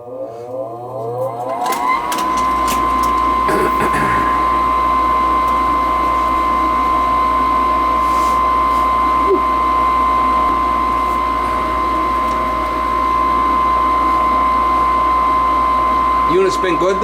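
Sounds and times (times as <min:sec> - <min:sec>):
furnace mechanical hum: 0:00.0 - 0:17.0
high-pitched whine: 0:01.6 - 0:17.0.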